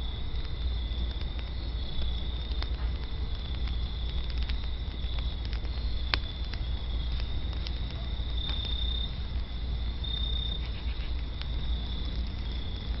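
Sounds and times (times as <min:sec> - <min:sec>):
insect trill: 0:00.0 - 0:13.0
low steady rumble: 0:00.0 - 0:13.0
wood fire crackling and popping: 0:00.0 - 0:13.0.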